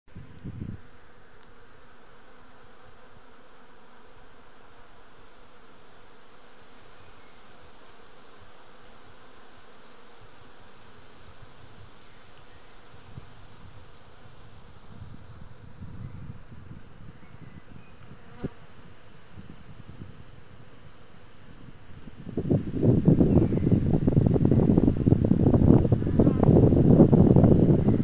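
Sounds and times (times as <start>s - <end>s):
bees humming: 0.2s - 28.0s.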